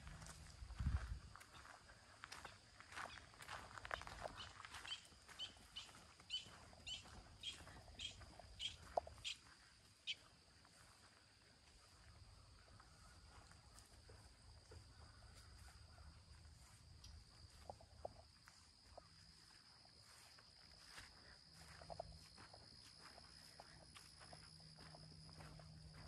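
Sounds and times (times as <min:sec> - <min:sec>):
faint insect drone: 0:00.0 - 0:26.0
footsteps on dirt path: 0:00.0 - 0:26.0.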